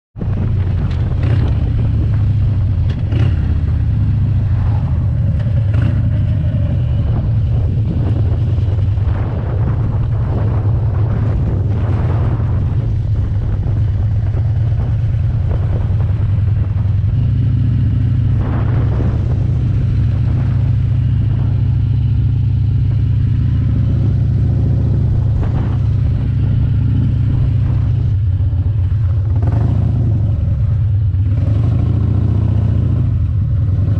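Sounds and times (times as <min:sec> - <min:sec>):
motorcycle engine rumbling: 0:00.2 - 0:33.9.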